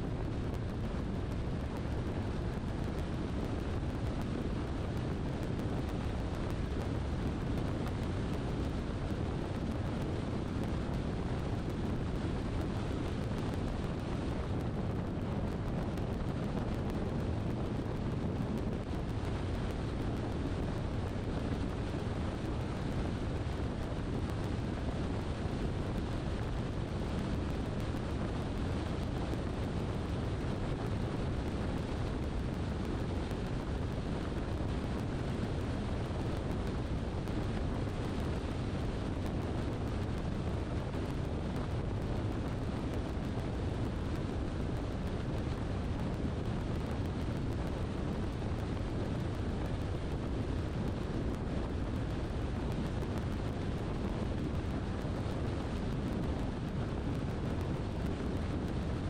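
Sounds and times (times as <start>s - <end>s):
road and wind noise rumble: 0.0s - 59.0s.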